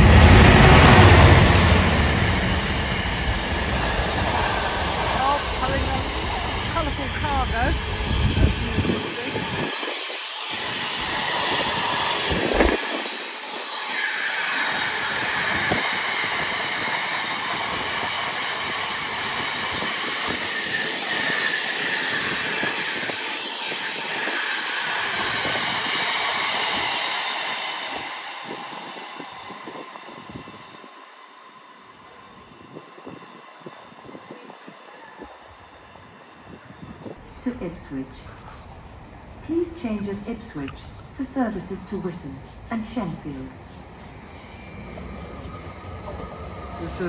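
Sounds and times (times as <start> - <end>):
freight train wagons rumbling: 0.0 - 31.1, 31.9 - 47.0.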